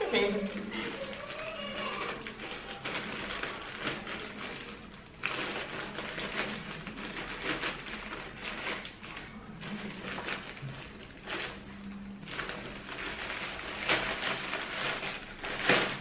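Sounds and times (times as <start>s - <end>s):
plastic mailer bag crinkling: 0.0s - 16.0s.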